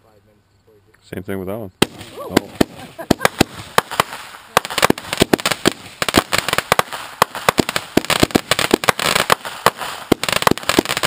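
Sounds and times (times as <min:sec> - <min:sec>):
fireworks bangs and pops: 0:01.8 - 0:11.0
fireworks crackling: 0:01.8 - 0:11.0.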